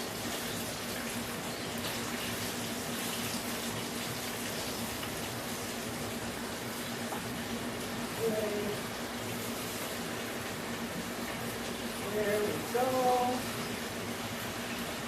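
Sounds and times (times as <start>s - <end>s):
faint steady hum: 0.0s - 15.0s
oil sizzling hiss: 0.0s - 15.0s.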